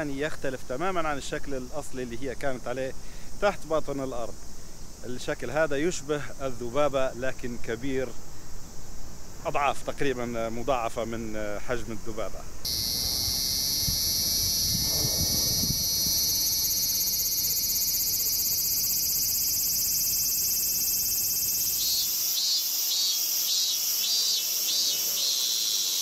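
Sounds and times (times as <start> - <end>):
cicadas buzzing: 0.0 - 26.0.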